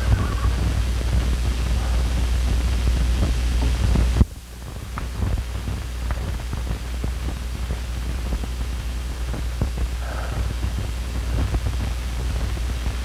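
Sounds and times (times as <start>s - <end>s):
crackles and pops: 0.0s - 13.0s
film soundtrack hum: 0.0s - 13.0s.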